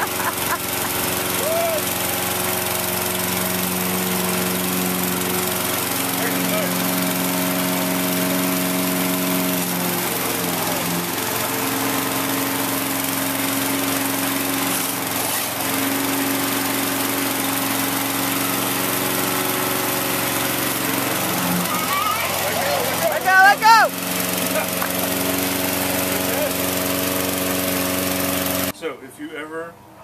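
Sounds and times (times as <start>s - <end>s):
lawn mower engine running: 0.0s - 28.8s.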